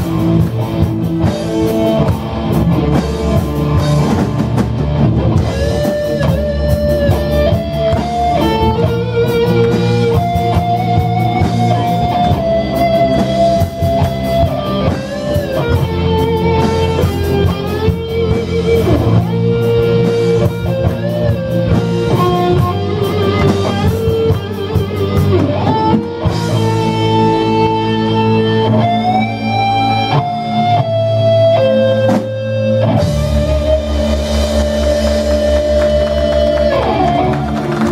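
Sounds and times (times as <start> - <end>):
bass guitar: 0.0 - 37.9
drum kit: 0.0 - 37.9
electric guitar melody: 0.0 - 37.9.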